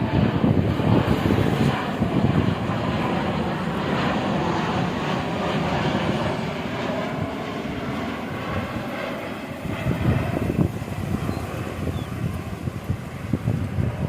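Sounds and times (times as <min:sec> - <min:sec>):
jet engine rush: 0:00.0 - 0:14.0.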